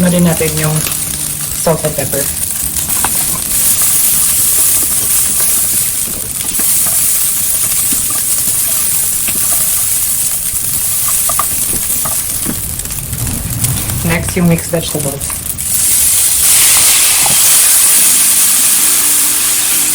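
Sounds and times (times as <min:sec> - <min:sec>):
rice sizzling in oil: 0:00.0 - 0:19.9.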